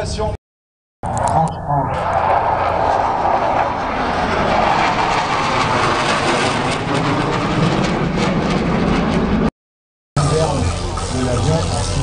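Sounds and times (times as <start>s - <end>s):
aircraft engines overhead: 1.0s - 9.5s, 10.2s - 12.0s.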